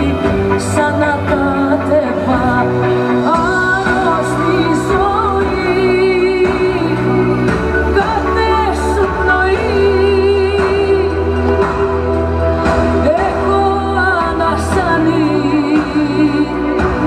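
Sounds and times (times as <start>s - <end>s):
pop band backing: 0.0s - 17.0s
woman singing with vibrato: 0.0s - 17.0s.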